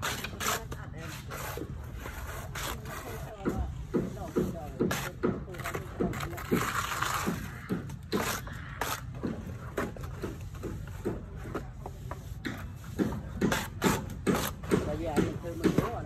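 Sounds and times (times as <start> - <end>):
trowel scraping wet plaster: 0.0 - 16.0.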